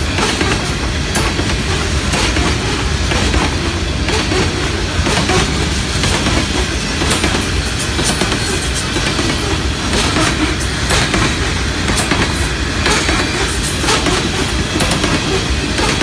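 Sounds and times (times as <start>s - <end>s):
steel wheels rumbling on rail: 0.0s - 16.0s
wheels clicking over rail joints: 0.0s - 16.0s.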